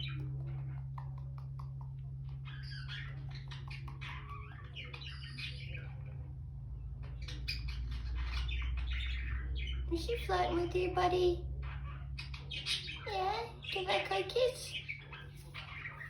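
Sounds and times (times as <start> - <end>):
parrots chirping and clicking: 0.0 - 16.0
steady low hum: 0.0 - 16.0.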